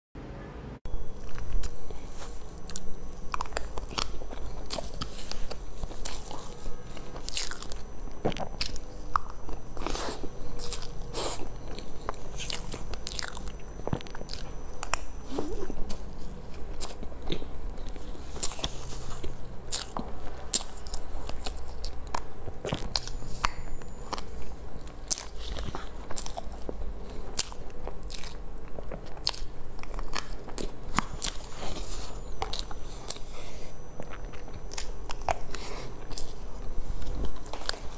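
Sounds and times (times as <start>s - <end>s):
chewing clicks: 2.6s - 15.1s, 15.8s - 33.3s, 33.9s - 37.9s.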